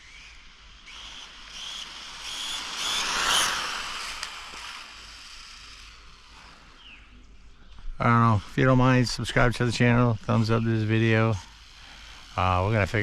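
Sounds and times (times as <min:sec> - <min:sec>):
rc car motor whine: 0:00.0 - 0:13.0.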